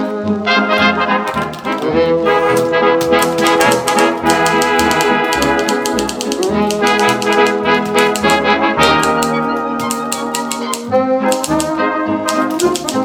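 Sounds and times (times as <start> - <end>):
brass music with trumpet: 0.0 - 13.0
sharp clicks: 1.3 - 13.0.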